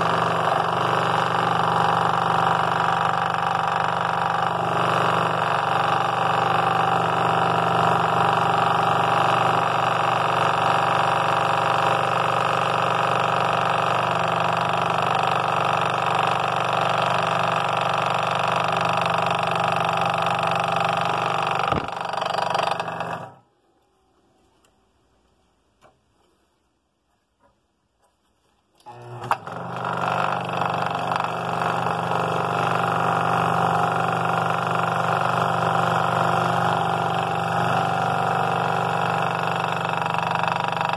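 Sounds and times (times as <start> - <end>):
scroll saw cutting wood: 0.0 - 23.4, 28.8 - 40.9.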